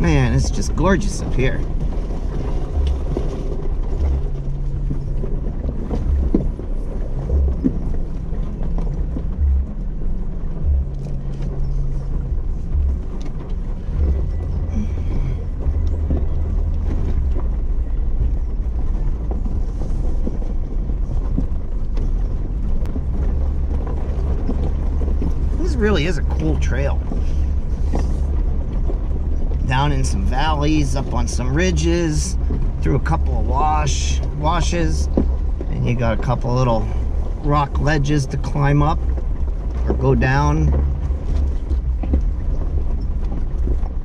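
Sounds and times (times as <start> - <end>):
engine droning: 0.0 - 44.0
knocks and rattles: 0.0 - 44.0.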